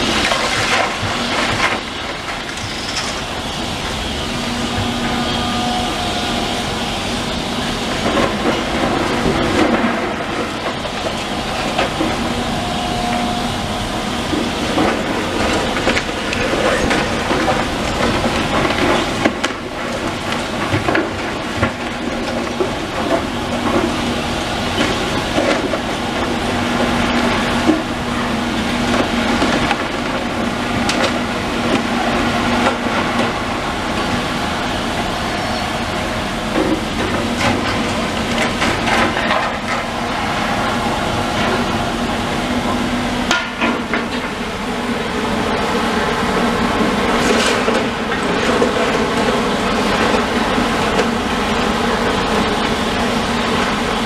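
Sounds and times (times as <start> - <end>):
demolition machine engine: 0.0 - 54.0.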